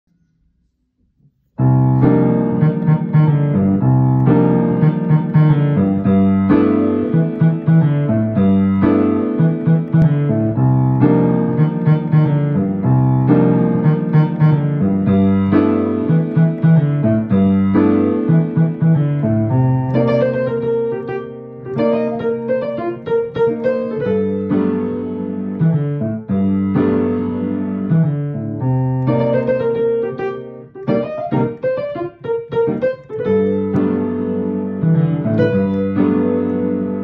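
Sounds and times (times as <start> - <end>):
piano chords: 1.6 - 37.0.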